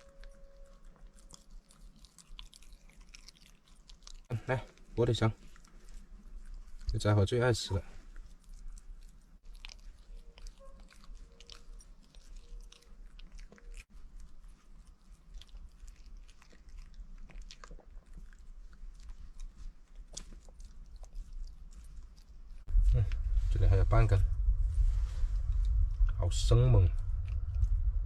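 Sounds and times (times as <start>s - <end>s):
pet chewing wetly: 0.0s - 22.7s.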